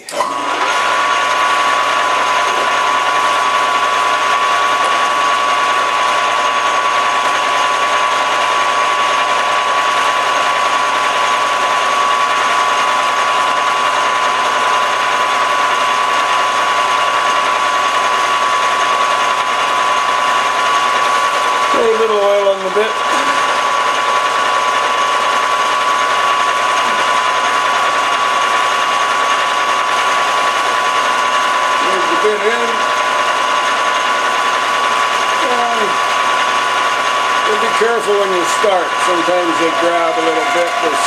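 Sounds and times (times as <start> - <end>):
metal lathe running with whine: 0.0 - 41.0.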